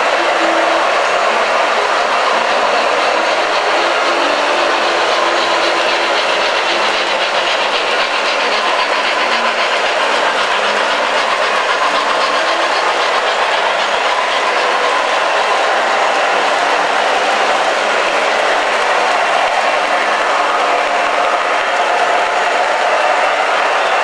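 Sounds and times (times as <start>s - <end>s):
model train wheels on track: 0.0s - 24.0s.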